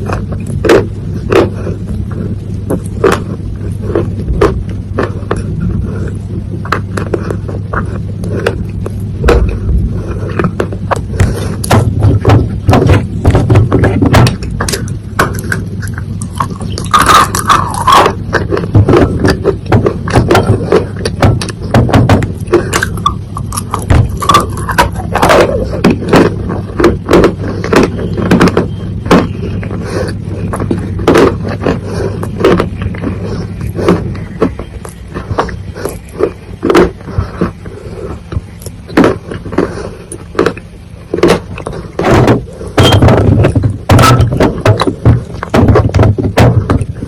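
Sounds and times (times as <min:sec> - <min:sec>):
chewing crunching soil: 0:00.0 - 0:47.0
low hum: 0:00.0 - 0:47.0.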